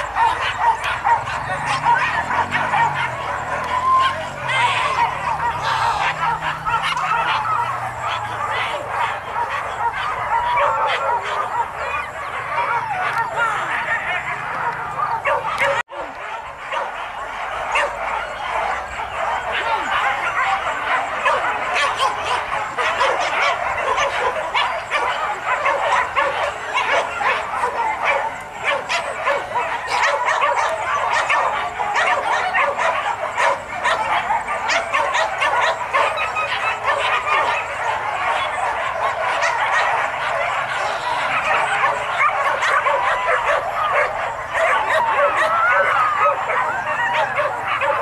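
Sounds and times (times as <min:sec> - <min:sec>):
dogs yipping and barking: 0:00.0 - 0:48.0.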